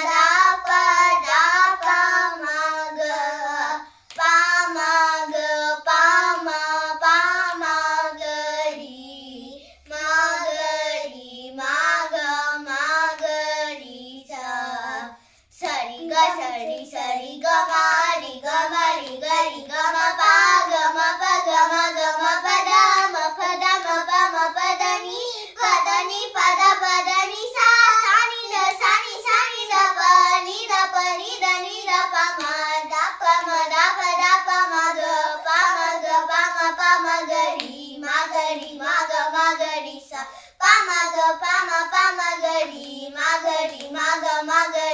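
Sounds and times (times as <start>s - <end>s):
girls singing unaccompanied: 0.0s - 44.9s.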